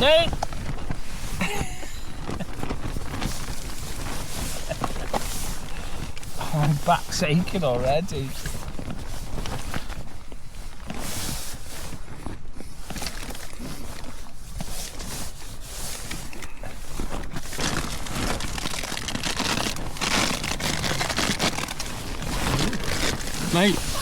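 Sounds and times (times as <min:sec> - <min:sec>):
fabric rustling and crinkling: 0:00.0 - 0:24.0.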